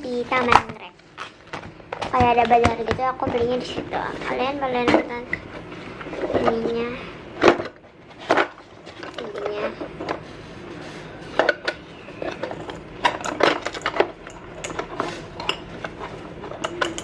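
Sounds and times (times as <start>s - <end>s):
plastic toy pieces clattering: 0.4s - 10.2s, 11.4s - 17.0s.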